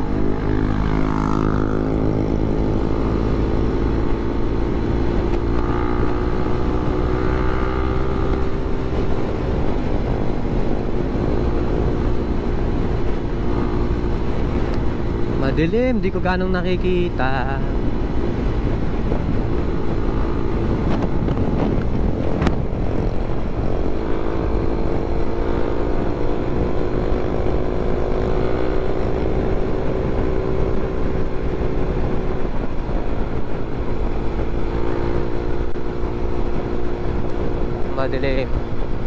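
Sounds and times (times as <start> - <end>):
motorcycle engine cruising: 0.0 - 39.0
wind and road noise: 0.0 - 39.0.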